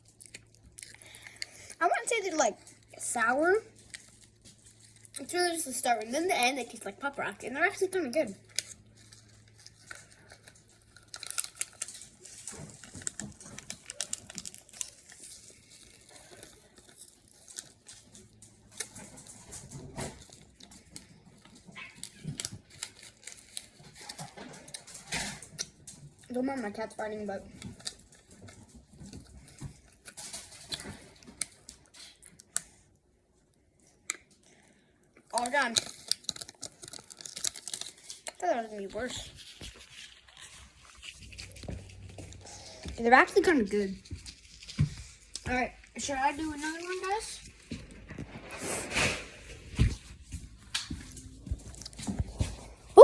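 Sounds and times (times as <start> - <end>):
crackling and crinkling: 0.0 - 53.0.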